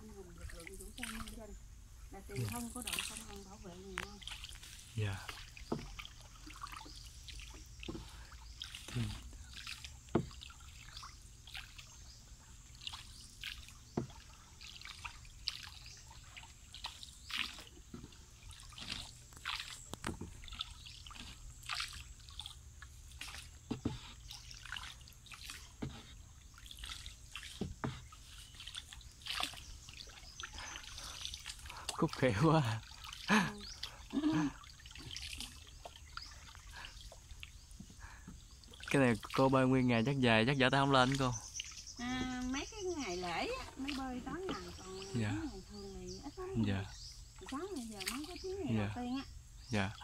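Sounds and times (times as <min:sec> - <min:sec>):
paddle splashing water: 0:00.0 - 0:50.0
water dripping: 0:00.1 - 0:01.6, 0:02.2 - 0:50.0.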